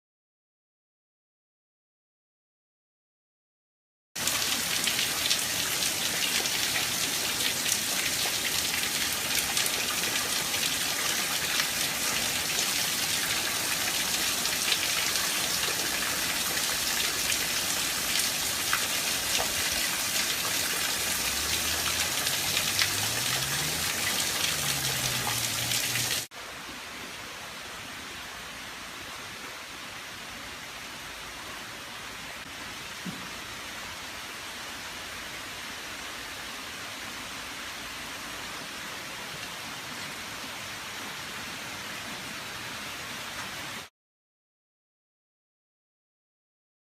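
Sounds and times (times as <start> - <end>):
rain hiss: 4.2 - 43.9.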